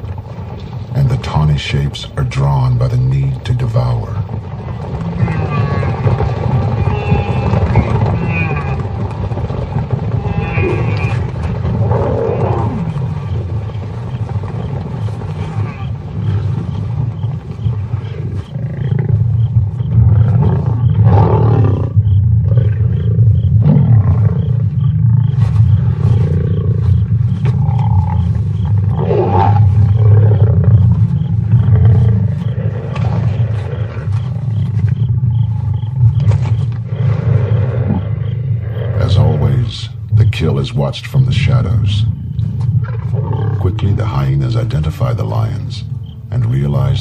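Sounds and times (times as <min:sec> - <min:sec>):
lions growling: 0:00.0 - 0:47.0.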